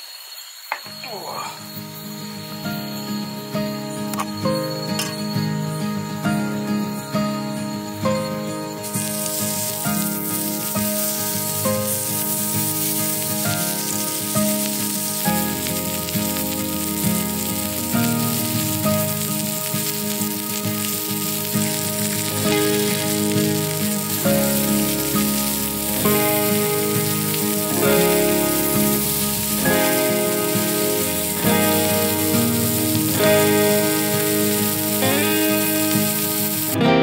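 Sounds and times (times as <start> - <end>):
meat sizzling on a griddle: 0.0 - 36.8
background music with held chords: 1.7 - 37.0.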